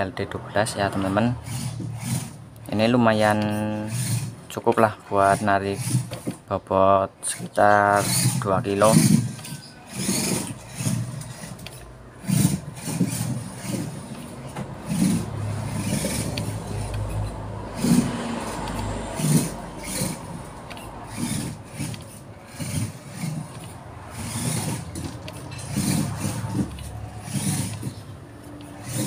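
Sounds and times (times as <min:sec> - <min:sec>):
chassis and tyres clattering: 0:00.0 - 0:29.0
toy truck electric motor whirring: 0:00.9 - 0:29.0.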